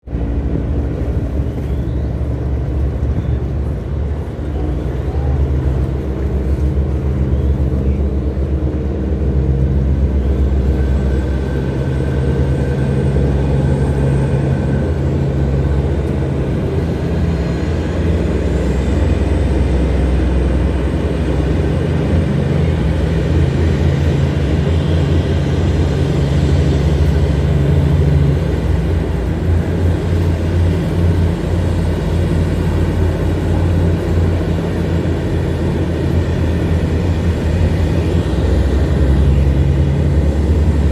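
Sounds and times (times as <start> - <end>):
tugboat engine droning: 0.0 - 40.9.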